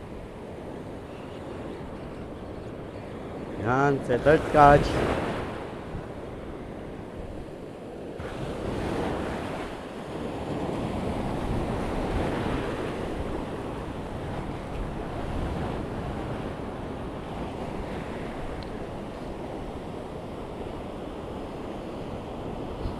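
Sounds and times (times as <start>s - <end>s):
waves breaking: 0.0s - 22.9s
wind buffeting microphone: 0.0s - 22.9s.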